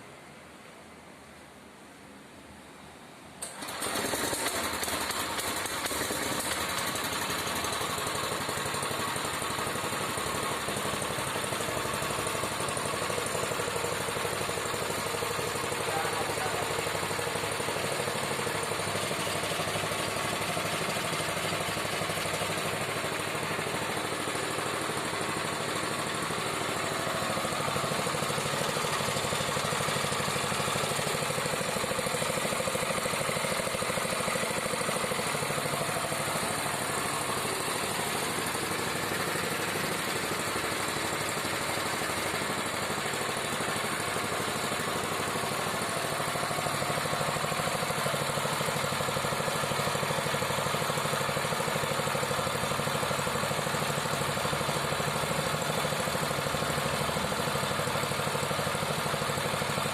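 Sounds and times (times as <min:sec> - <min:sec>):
small petrol engine running: 0:03.4 - 0:59.9.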